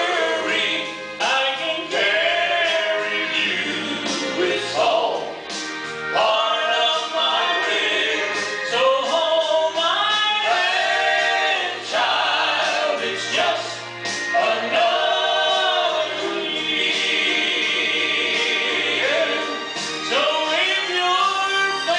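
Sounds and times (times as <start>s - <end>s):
gospel vocal group singing: 0.0s - 21.9s.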